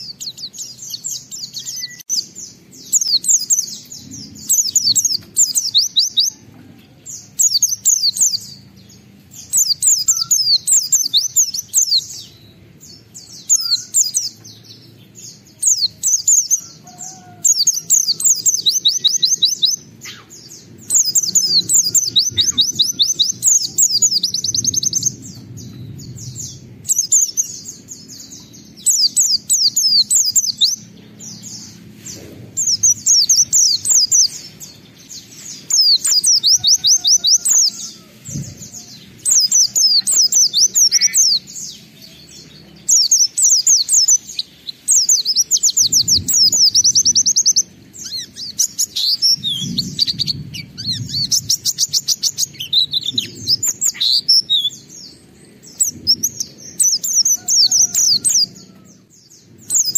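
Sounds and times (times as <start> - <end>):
bird twittering: 0.0 - 6.4, 7.2 - 58.9.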